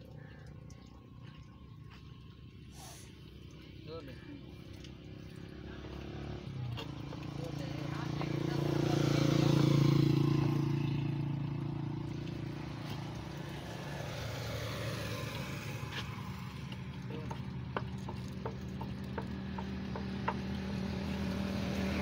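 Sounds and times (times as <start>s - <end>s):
steady engine hum: 0.0s - 22.0s.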